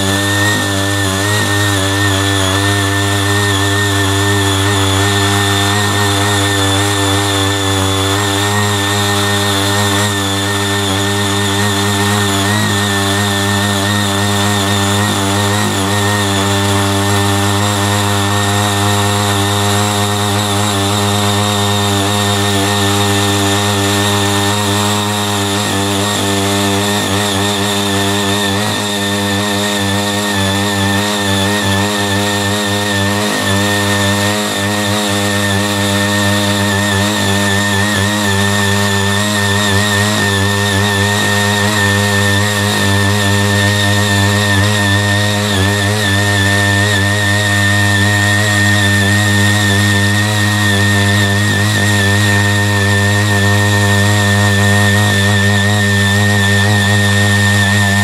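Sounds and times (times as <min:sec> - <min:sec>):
power tiller engine running: 0:00.0 - 0:58.0.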